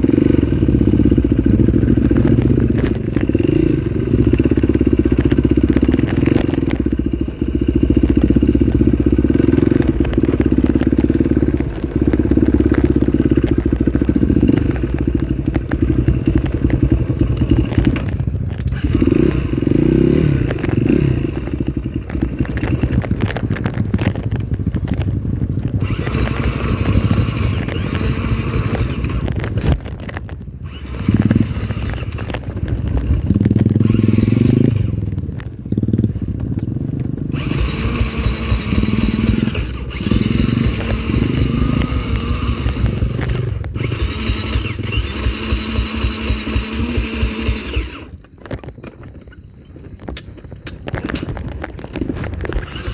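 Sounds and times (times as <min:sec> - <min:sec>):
motorcycle engine revving: 0:00.0 - 0:49.0, 0:51.0 - 0:52.9.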